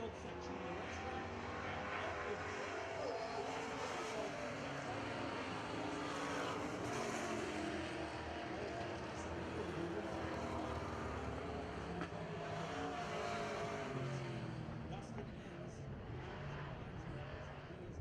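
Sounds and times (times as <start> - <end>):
race truck engines: 0.0 - 18.0.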